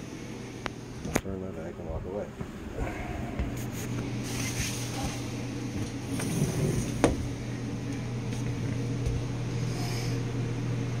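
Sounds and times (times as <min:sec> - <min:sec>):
appliance low hum: 0:00.0 - 0:11.0.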